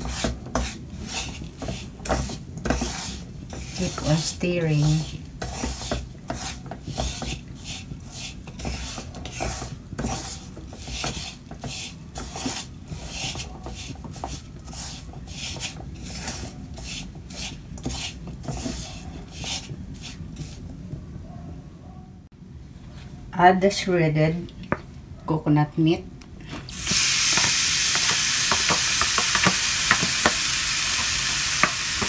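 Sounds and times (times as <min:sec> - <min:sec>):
wooden spatula scraping metal wok: 0:00.0 - 0:20.8, 0:26.7 - 0:32.0.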